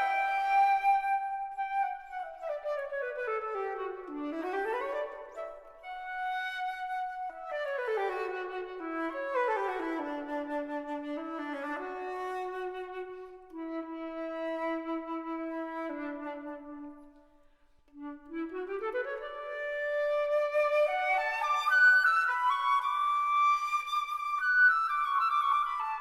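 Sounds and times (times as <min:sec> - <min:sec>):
wind instrument melody: 0:00.0 - 0:17.3, 0:17.9 - 0:26.0.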